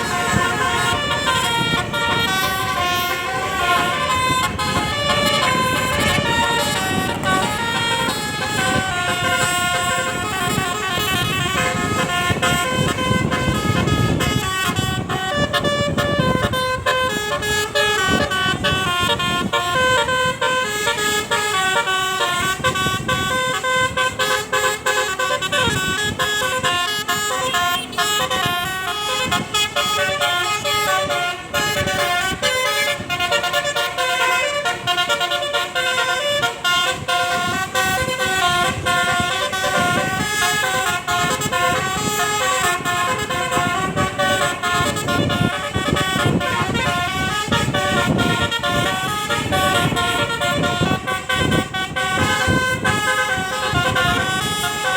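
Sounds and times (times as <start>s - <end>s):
multi-tone air horns: 0.0s - 54.9s.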